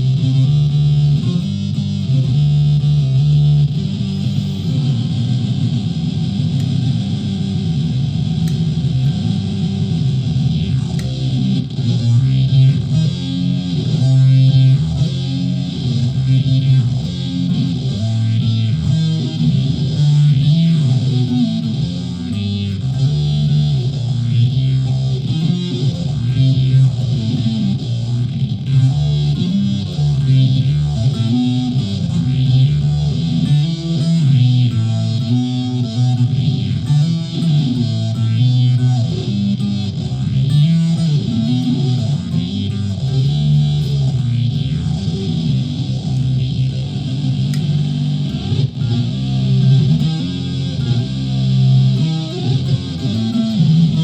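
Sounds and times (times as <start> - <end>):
electric ukulele with effects: 0.0 - 54.0.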